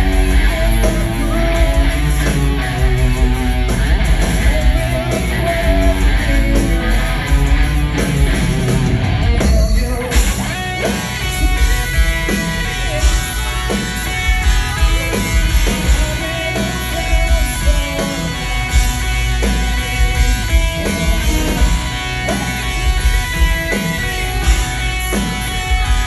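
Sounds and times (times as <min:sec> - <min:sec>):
electric guitar: 0:00.0 - 0:26.0
rock band playing live: 0:00.0 - 0:26.0.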